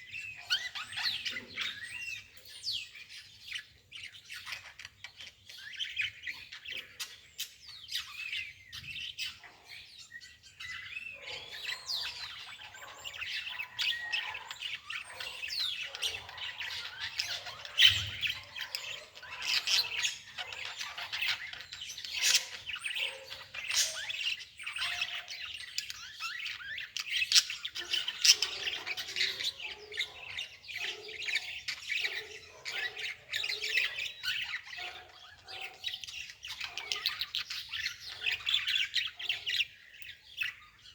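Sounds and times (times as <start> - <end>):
birds chirping in chorus: 0.0 - 40.9
sharp bird calls: 0.0 - 40.9.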